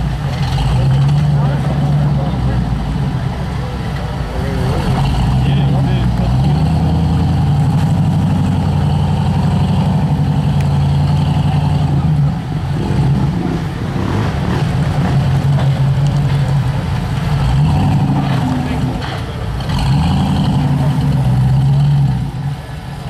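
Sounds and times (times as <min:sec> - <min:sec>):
buggy engine running under load: 0:00.0 - 0:23.0.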